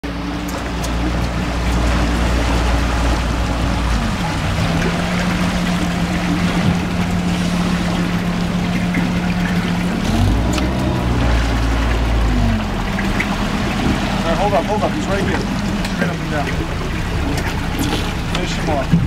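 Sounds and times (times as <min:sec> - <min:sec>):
outboard motor running: 0:00.0 - 0:19.0
water rushing along hull: 0:00.0 - 0:19.0.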